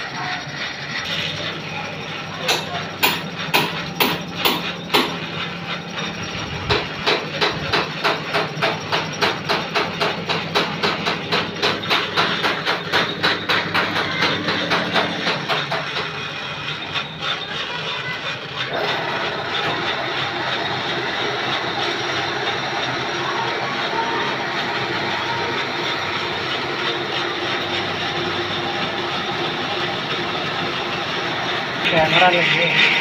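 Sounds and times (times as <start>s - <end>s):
machine tool motor hum: 0.0s - 33.0s.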